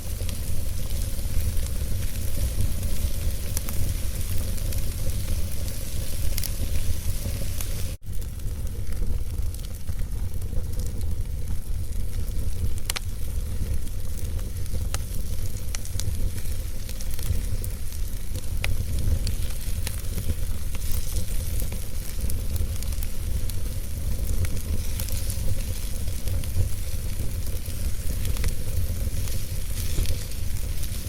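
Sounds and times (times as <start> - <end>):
fire crackling and popping: 0.0 - 31.0
fire rumbling: 0.0 - 31.0.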